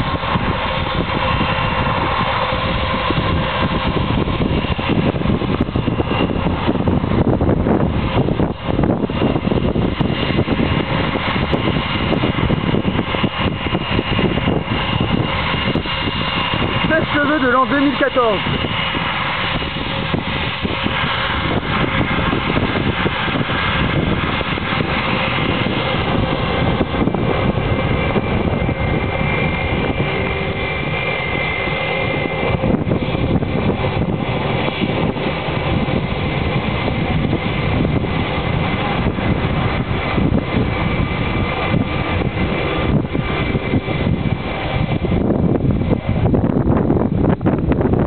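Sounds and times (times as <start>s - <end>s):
faint turbine whine: 0.0s - 48.0s
jet exhaust roar: 0.0s - 48.0s
wind buffeting microphone: 0.0s - 48.0s.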